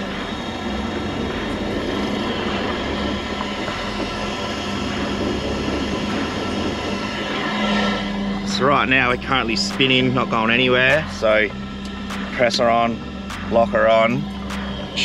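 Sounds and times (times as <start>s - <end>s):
truck engine droning under load: 0.0s - 15.0s.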